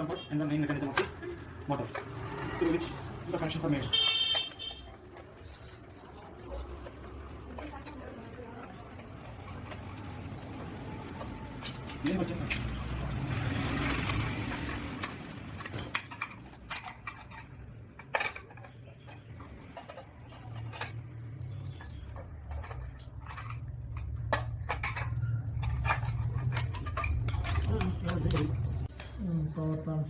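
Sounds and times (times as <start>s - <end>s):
small metal clinks and clicks: 0.0s - 29.2s.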